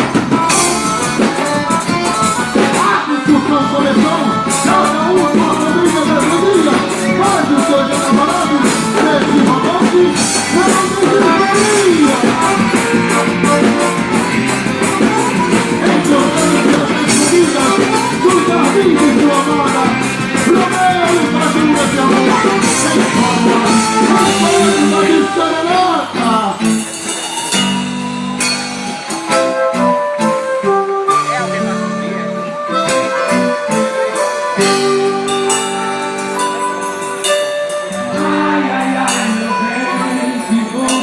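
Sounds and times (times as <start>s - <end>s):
festive dance music: 0.0s - 41.0s.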